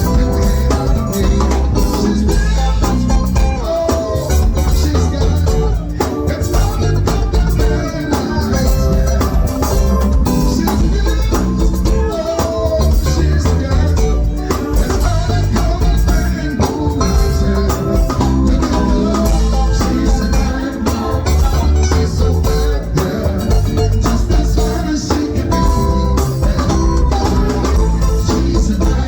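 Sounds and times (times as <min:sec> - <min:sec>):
band music with heavy bass: 0:00.0 - 0:29.0.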